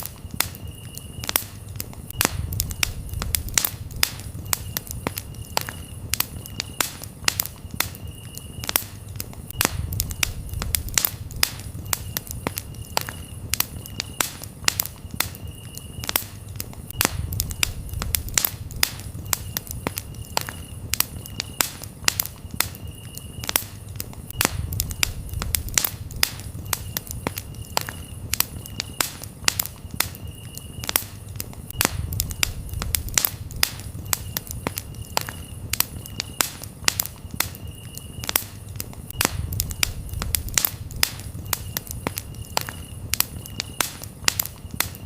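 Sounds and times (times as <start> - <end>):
campfire crackling and popping: 0.0 - 45.0
crickets chirping: 0.0 - 45.0.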